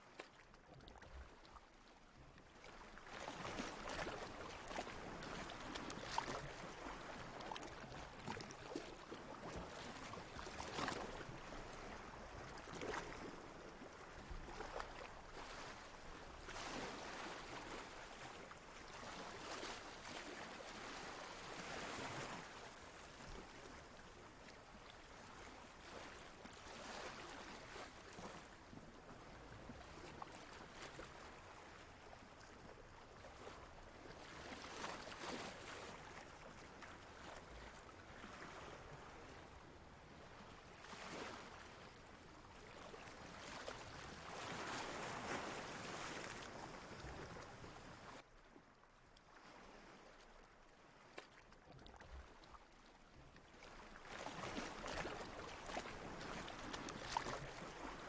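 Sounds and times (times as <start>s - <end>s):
water lapping and splashing: 0.0s - 58.0s.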